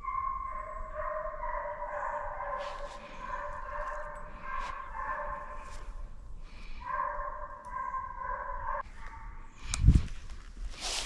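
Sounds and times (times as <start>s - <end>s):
hounds baying: 0.0s - 9.5s.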